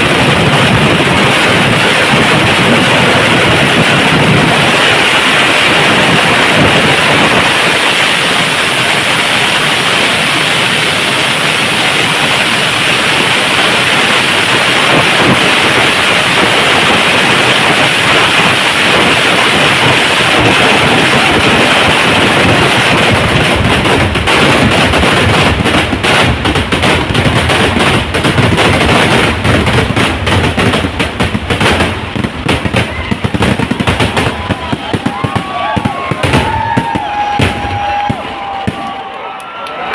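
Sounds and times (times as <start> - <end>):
firecrackers going off: 0.0 - 39.9.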